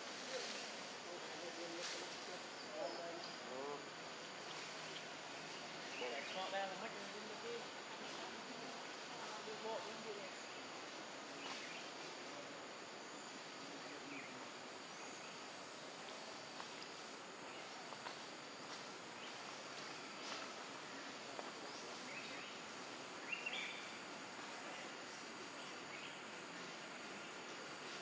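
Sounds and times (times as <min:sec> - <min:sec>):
faint high insect drone: 0:00.0 - 0:28.0
steady hiss: 0:00.0 - 0:28.0.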